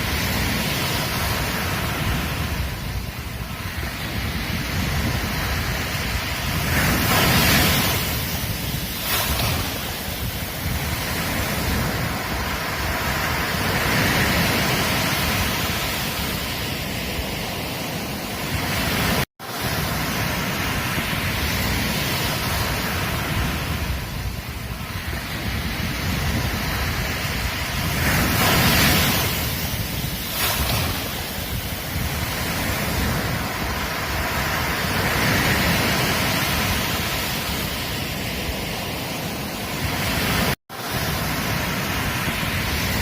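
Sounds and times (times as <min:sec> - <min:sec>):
ocean surf breaking on beach: 0:00.0 - 0:43.0.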